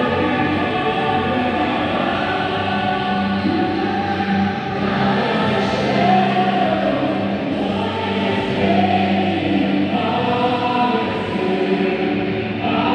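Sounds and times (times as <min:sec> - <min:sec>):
group of voices singing: 0:00.0 - 0:12.9.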